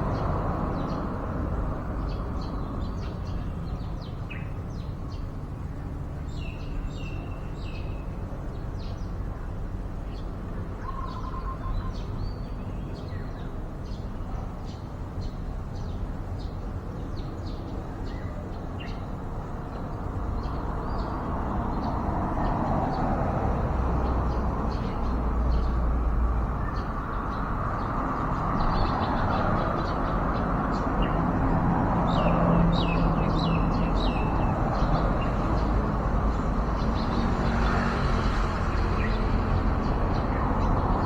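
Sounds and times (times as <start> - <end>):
distant road traffic rumble: 0.0 - 41.0.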